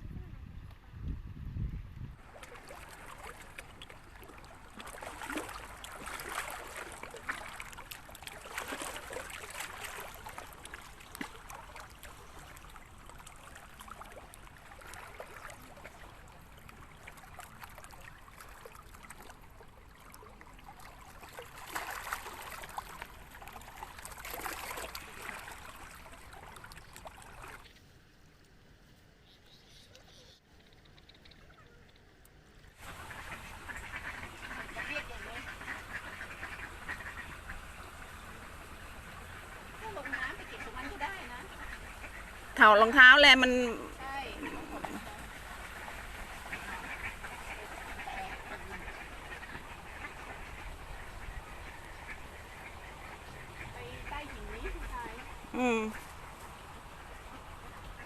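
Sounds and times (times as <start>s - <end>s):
lake water lapping at shore: 2.1s - 28.8s, 29.7s - 58.0s.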